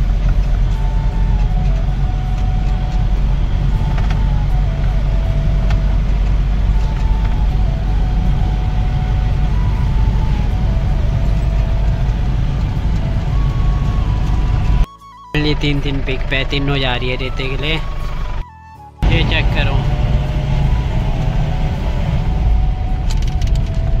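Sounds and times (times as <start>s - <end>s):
music with held notes: 0.0s - 24.0s
truck engine and road rumble: 0.0s - 24.0s.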